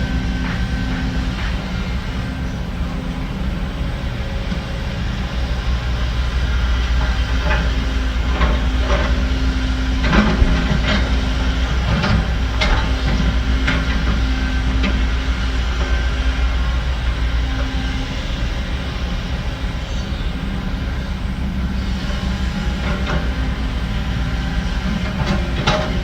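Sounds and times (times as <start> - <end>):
diesel construction machinery droning: 0.0 - 26.0.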